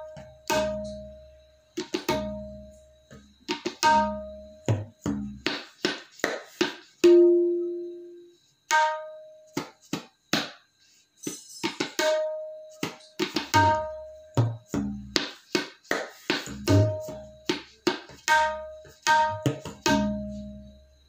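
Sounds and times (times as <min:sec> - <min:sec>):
tabla hand strokes: 0:01.8 - 0:07.2, 0:08.7 - 0:20.6.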